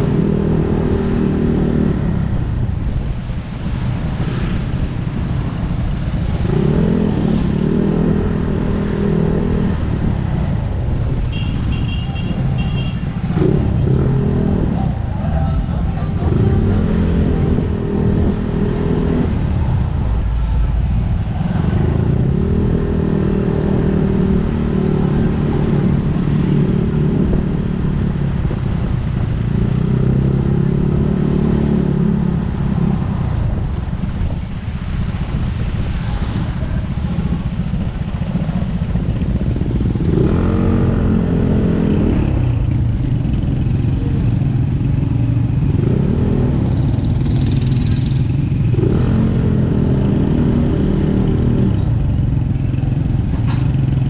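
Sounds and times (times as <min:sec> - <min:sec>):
low rumble and rushing noise: 0:00.0 - 0:54.0.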